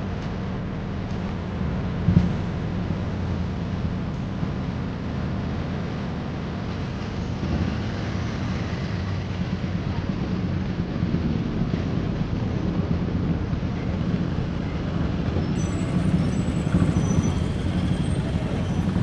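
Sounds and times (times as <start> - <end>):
road vehicle rumble: 0.0 - 19.0.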